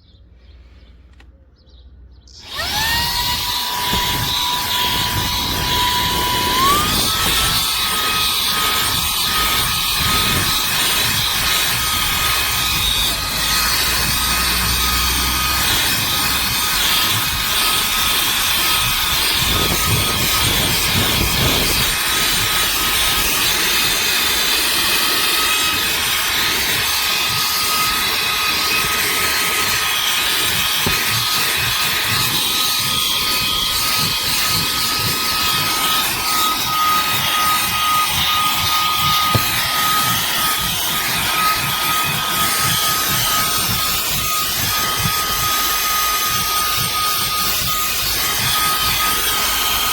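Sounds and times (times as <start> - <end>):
handheld vacuum cleaner running: 2.4 - 49.9.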